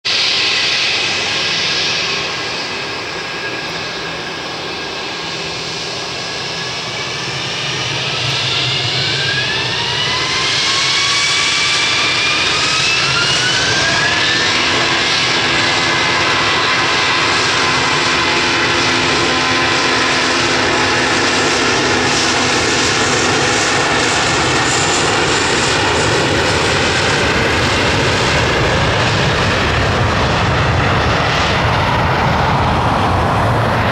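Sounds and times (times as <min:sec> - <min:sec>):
jet engines whine rising: 0:00.0 - 0:33.9.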